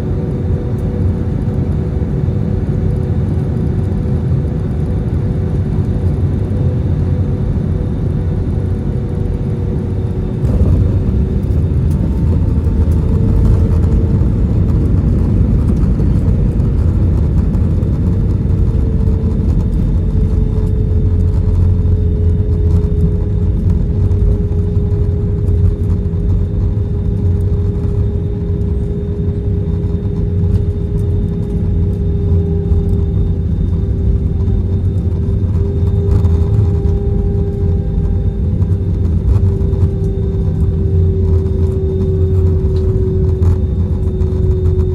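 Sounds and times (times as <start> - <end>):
airplane cabin rumble: 0.0 - 44.9
jet engine tone: 0.0 - 44.9.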